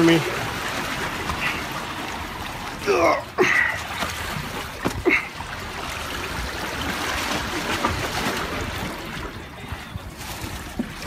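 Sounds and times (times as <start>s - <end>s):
seawater splashing among boulders: 0.0s - 11.0s.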